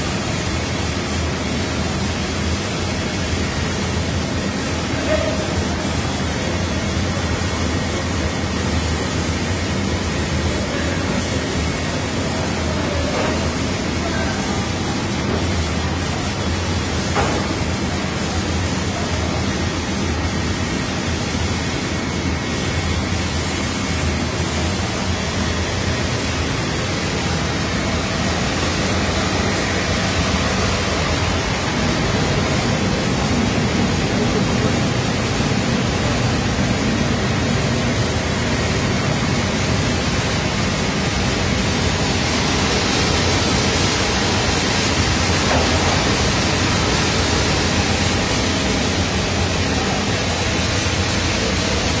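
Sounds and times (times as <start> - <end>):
rushing machine noise: 0.0 - 52.0.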